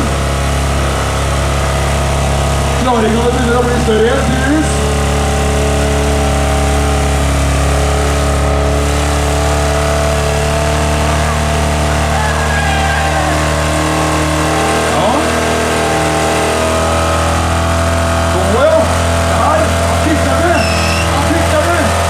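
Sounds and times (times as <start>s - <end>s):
car engine revving steadily: 0.0s - 22.0s.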